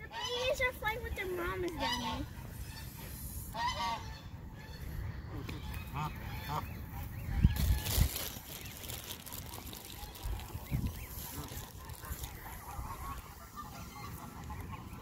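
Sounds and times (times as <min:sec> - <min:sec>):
geese calling: 0:00.0 - 0:15.0.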